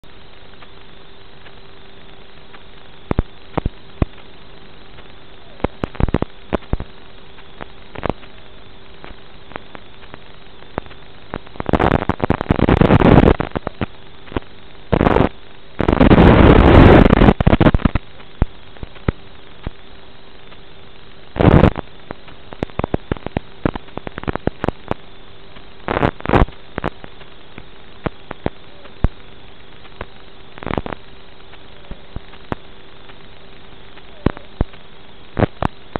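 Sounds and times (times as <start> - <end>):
bursts of crackling noise: 0.0 - 35.9
video receiver static hiss: 0.0 - 35.9.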